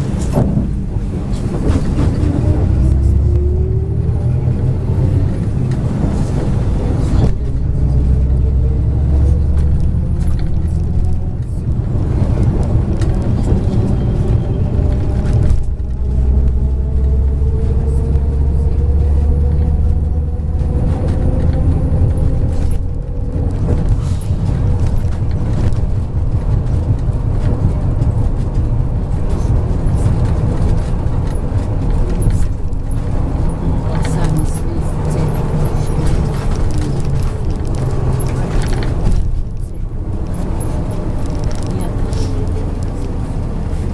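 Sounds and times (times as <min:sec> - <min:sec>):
bus engine rumble and whine: 0:00.0 - 0:43.9.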